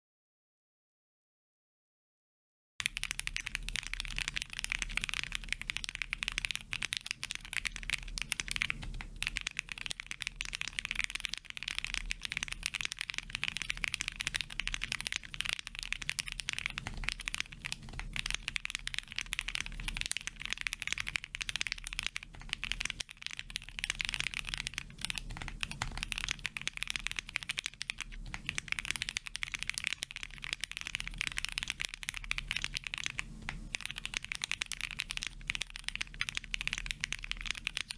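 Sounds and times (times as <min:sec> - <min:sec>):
mechanical keyboard typing: 0:02.8 - 0:37.9.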